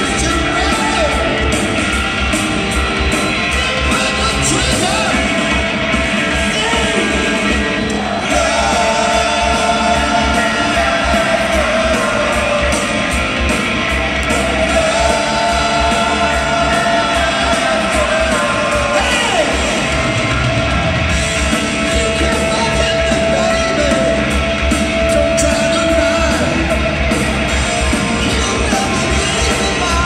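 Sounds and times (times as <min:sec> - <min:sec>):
live band with driving beat: 0:00.0 - 0:30.0.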